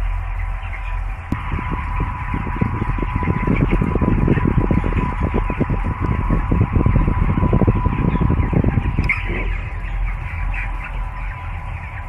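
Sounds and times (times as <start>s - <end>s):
chicks cheeping faintly: 0.0s - 12.0s
steady low hum: 0.0s - 12.0s.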